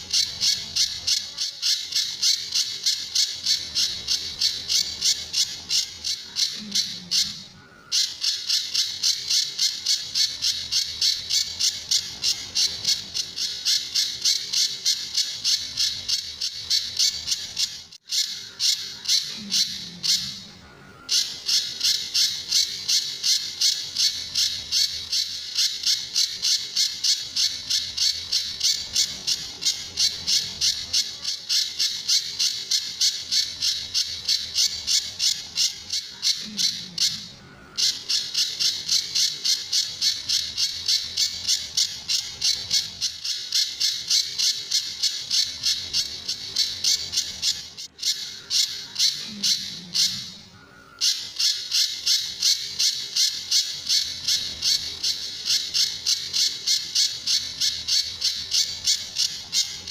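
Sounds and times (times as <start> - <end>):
songbird calling high sharp notes: 0.0 - 59.9.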